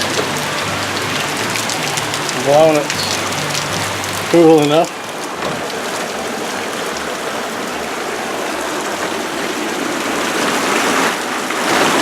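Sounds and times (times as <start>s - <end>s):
running water: 0.0s - 12.0s
steady rain falling: 0.0s - 12.0s.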